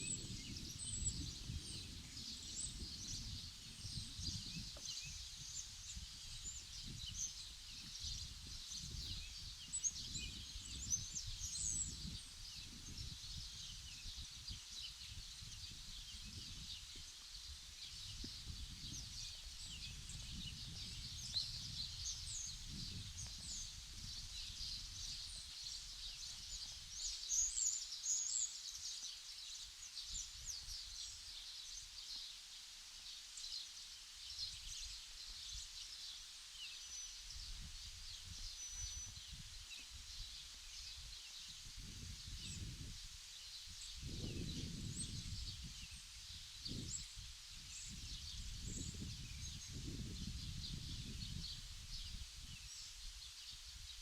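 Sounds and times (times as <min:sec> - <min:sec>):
wind rumbling on microphone: 0:00.0 - 0:27.5, 0:37.3 - 0:54.0
small birds chirping: 0:00.0 - 0:54.0.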